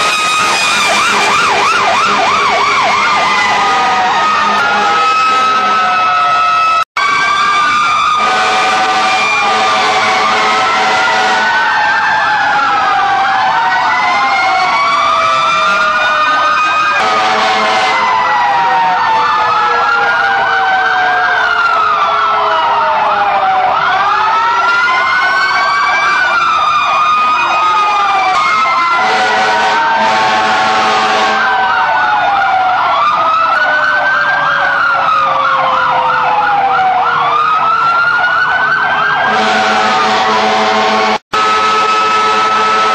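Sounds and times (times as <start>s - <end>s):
fire truck sirens wailing: 0.0s - 42.9s.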